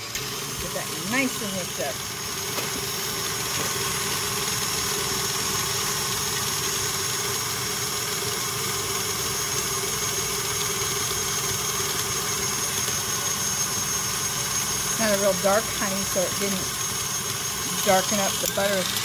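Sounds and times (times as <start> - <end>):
beater whipping butter in bowl: 0.0 - 19.0
stand mixer motor whining: 0.0 - 19.0.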